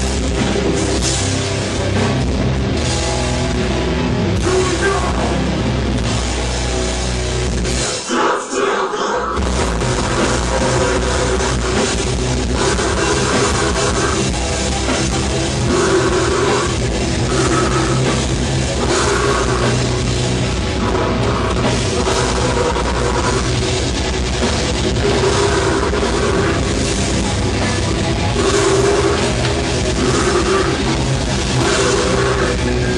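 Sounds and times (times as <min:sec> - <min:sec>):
heavy metal band playing live: 0:00.0 - 0:32.9.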